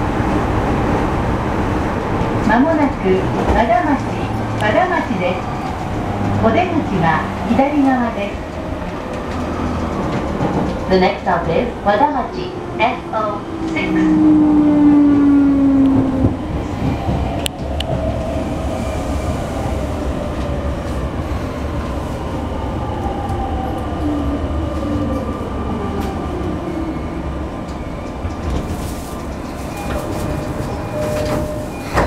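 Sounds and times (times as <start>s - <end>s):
wheels rumbling on rails: 0.0s - 32.0s.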